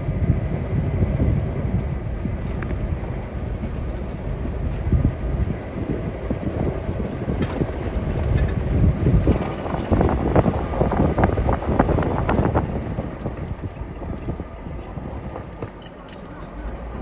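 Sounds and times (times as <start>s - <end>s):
tyres rumbling over gravel: 2.3s - 17.0s.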